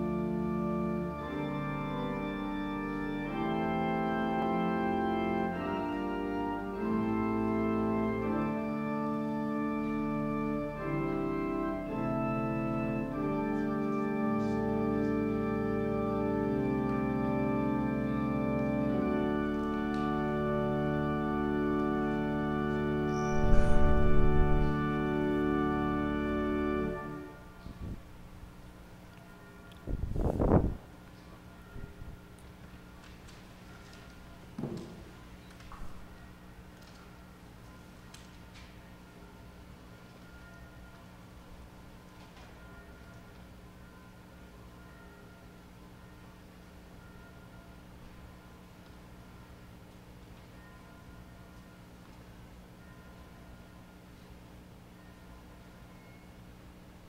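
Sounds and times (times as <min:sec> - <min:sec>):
organ chords: 0:00.0 - 0:57.0.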